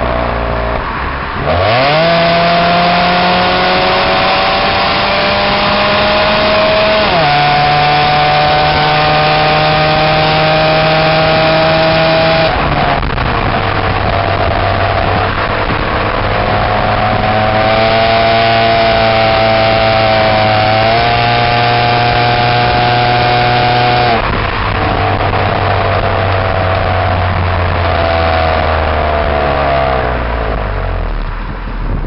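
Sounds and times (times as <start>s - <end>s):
car exhaust accelerating: 0.0s - 32.0s.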